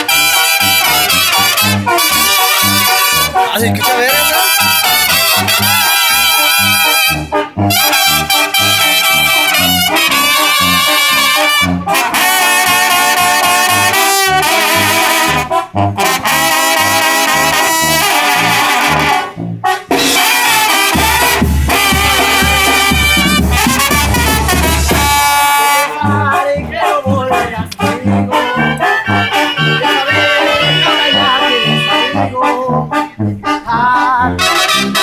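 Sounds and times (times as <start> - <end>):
brass band playing: 0.0 - 35.0
trumpets and trombones melody: 0.0 - 35.0
tuba bass line: 0.0 - 35.0.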